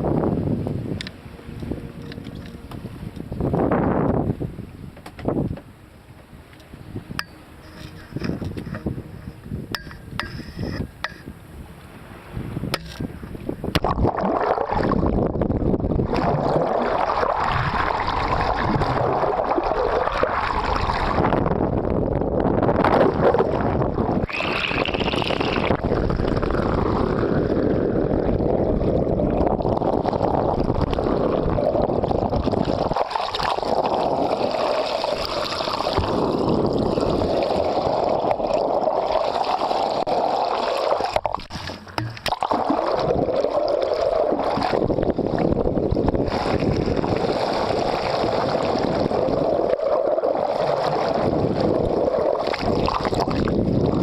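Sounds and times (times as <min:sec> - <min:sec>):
water gurgling along a hull: 0:00.0 - 0:54.0
wind noise on microphone: 0:00.0 - 0:54.0.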